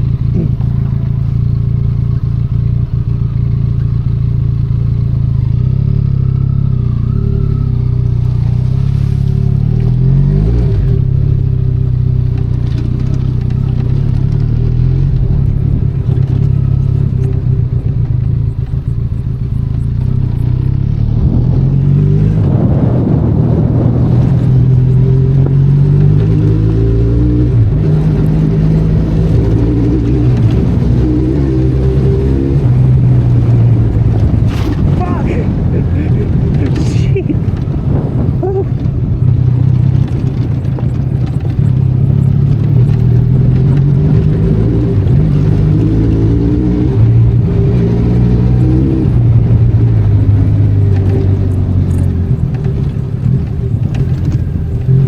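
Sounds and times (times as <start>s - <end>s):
motorcycle engine on trail: 0.0s - 55.0s.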